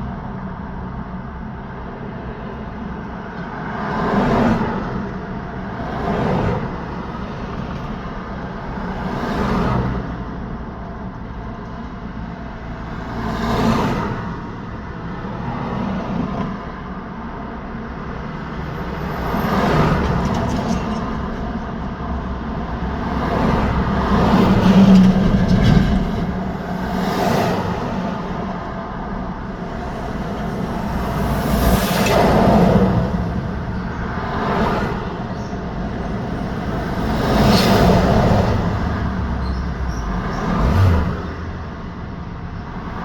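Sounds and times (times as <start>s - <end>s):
steady traffic hum: 0.0s - 43.0s
vehicles passing: 0.0s - 43.0s.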